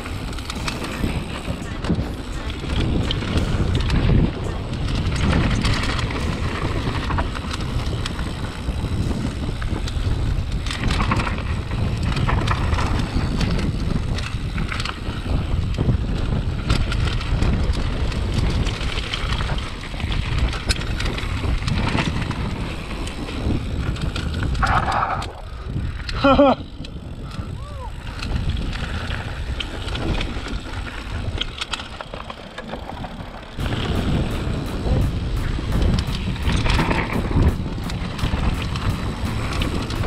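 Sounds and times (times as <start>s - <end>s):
bike rattling and knocking: 0.0s - 40.0s
wind noise on microphone: 0.0s - 40.0s.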